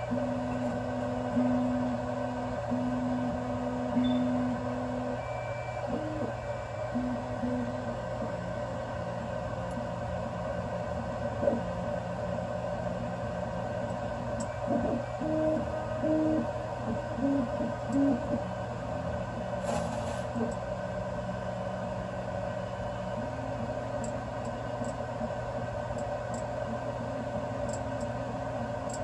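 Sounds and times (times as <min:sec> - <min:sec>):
cooling fans humming: 0:00.0 - 0:29.0.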